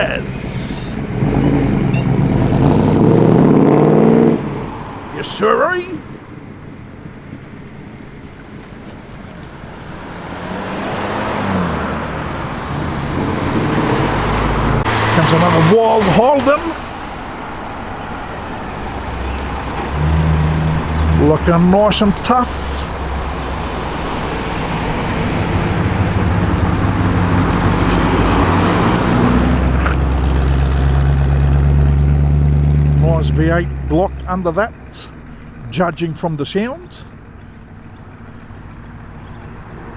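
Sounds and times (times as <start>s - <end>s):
car engine approaching slowly: 0.0s - 39.9s.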